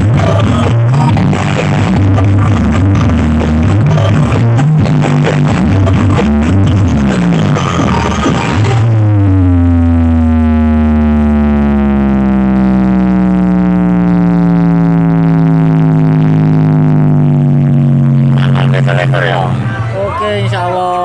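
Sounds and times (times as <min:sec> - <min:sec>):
electronic drone sinking in pitch: 0:00.0 - 0:21.0.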